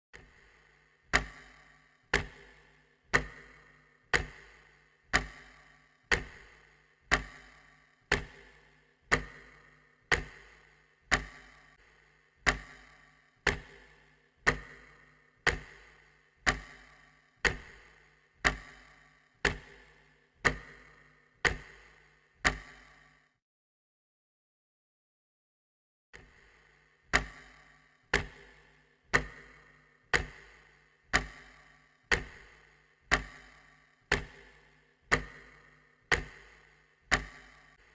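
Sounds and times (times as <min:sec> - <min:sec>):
clock ticking: 0:00.2 - 0:23.2, 0:26.2 - 0:37.9.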